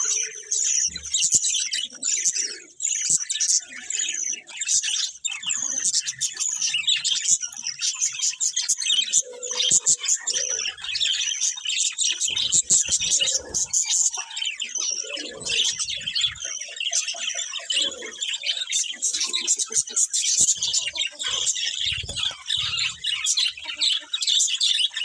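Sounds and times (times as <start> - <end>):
budgerigars chirping and warbling: 0.0 - 25.0.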